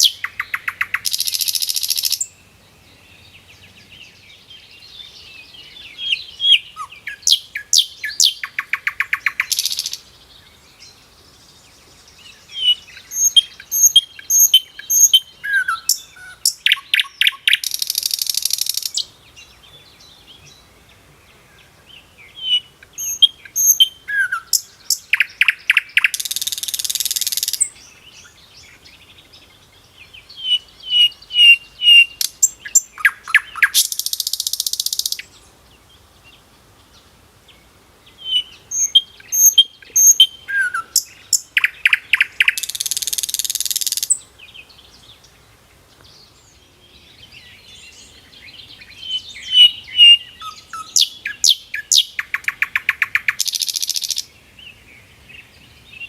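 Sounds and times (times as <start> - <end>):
songbird singing with buzzy trill: 0.0 - 56.0.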